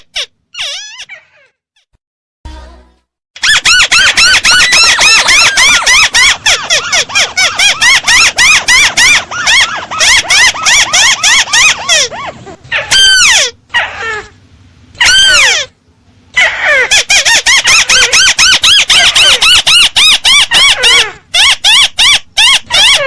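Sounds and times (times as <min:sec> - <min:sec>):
bird squealing call: 0:00.1 - 0:01.5, 0:03.4 - 0:14.3, 0:15.0 - 0:15.7, 0:16.4 - 0:23.0.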